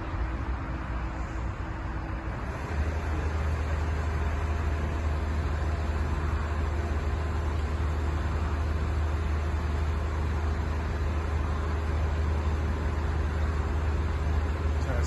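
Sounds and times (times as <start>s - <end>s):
diesel engine rumble: 0.0s - 15.0s.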